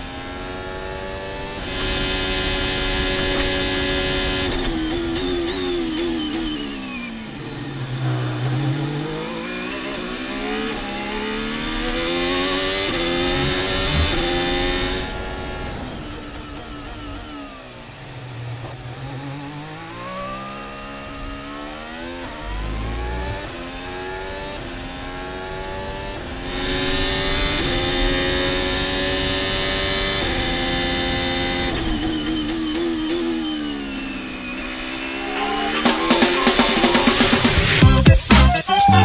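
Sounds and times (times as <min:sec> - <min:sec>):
race car engine revving: 0:00.0 - 0:38.2.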